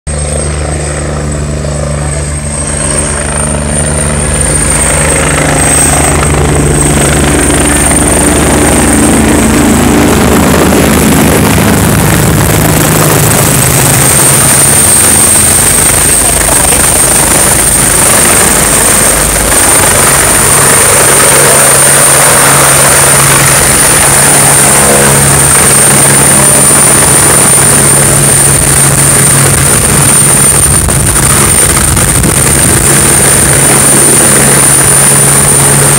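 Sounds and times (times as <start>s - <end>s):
helicopter rotor whine: 0.1s - 35.9s.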